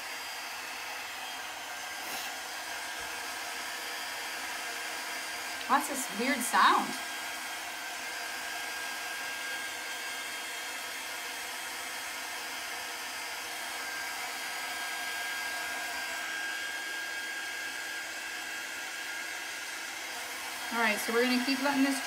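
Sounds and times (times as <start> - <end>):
craft drying tool blowing air: 0.0 - 22.0.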